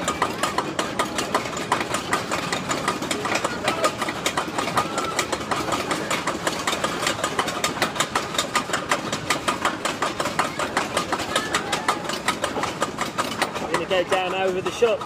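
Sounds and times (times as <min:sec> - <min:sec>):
roller coaster clattering on track: 0:00.0 - 0:15.0.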